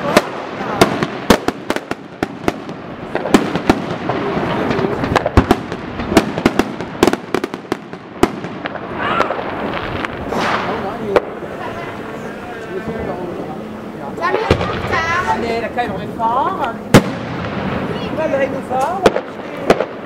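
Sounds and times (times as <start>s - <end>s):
fireworks bangs and cracks: 0.0s - 20.0s
fireworks crackle: 0.0s - 20.0s.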